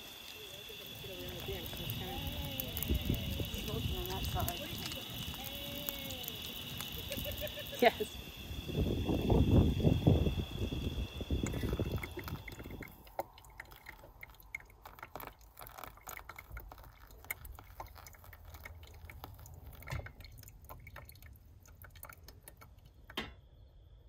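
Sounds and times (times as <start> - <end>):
water trickling onto coffee grounds: 0.0 - 23.2.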